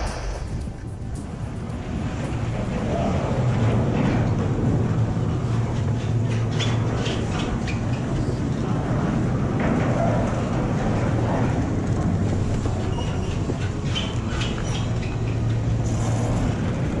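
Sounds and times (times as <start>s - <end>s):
chairlift machinery rumbling: 0.0s - 17.0s.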